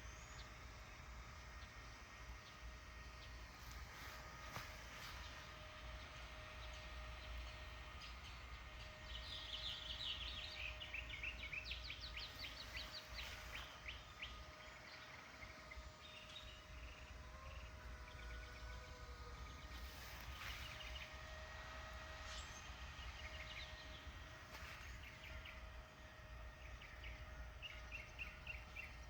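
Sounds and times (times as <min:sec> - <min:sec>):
faint steady hum: 0:00.0 - 0:29.0
songbird singing: 0:00.0 - 0:29.0.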